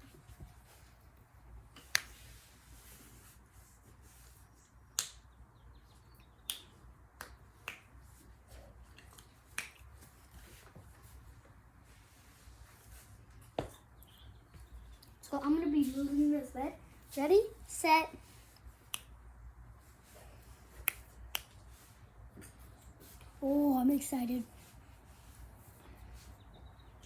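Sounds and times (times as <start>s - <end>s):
faint low room hum: 0.0s - 27.0s.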